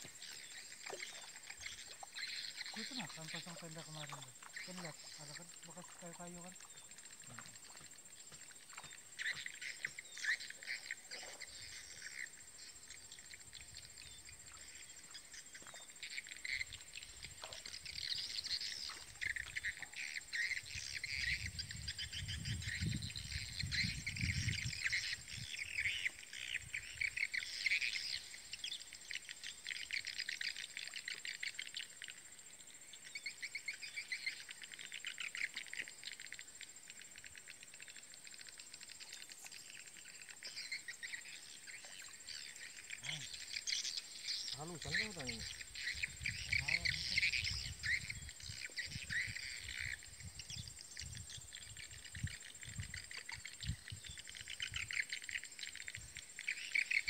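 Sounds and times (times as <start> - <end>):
birds chirping: 0.0 - 32.0, 36.7 - 57.0.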